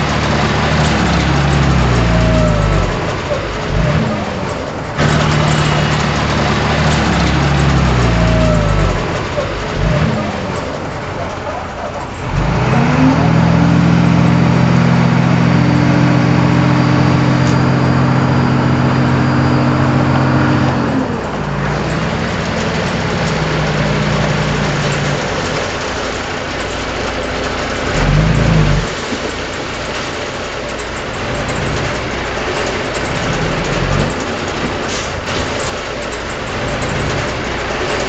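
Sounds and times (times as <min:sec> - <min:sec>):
heavy diesel engine revving: 0:00.0 - 0:29.4, 0:31.1 - 0:35.9.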